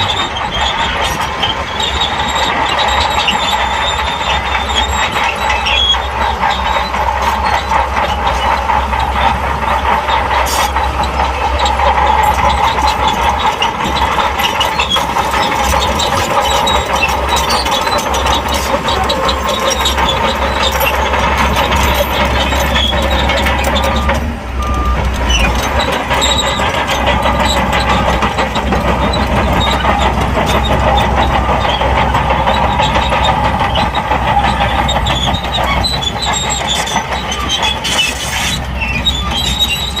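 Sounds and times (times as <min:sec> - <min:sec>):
bulldozer diesel engine: 0:00.0 - 0:40.0
steel tracks clattering: 0:00.0 - 0:40.0.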